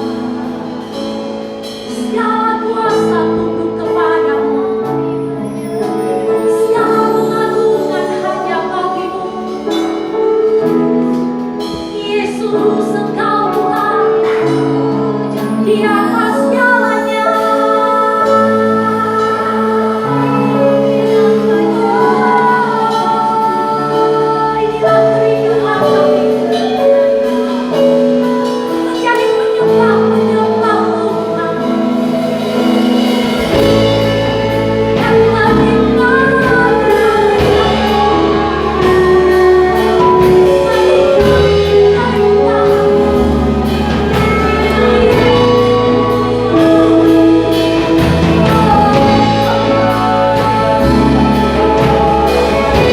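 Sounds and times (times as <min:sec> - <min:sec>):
voices singing worship song: 0:00.0 - 0:52.9.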